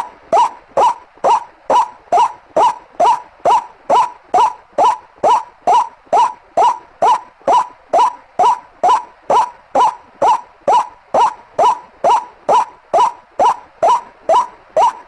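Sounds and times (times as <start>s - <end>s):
bird giving rising calls: 0.0s - 15.0s.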